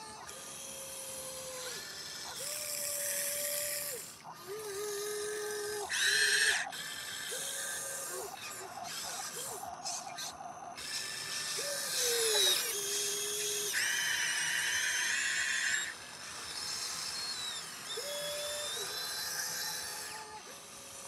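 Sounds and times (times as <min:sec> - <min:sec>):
toy excavator motors whining: 0:00.0 - 0:21.0.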